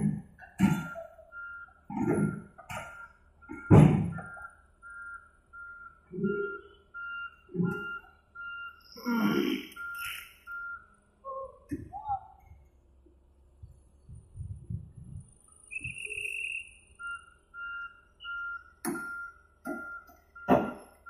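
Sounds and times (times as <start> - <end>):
excavator travel alarm beeping: 0.0 - 12.6, 15.0 - 21.0.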